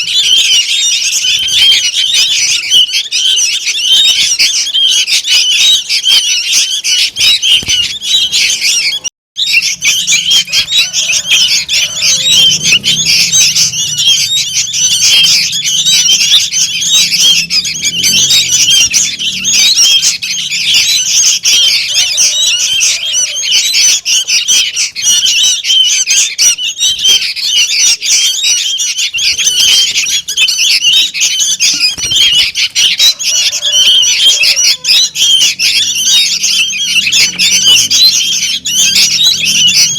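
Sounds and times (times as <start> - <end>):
young birds chattering calls: 0.0 - 39.9.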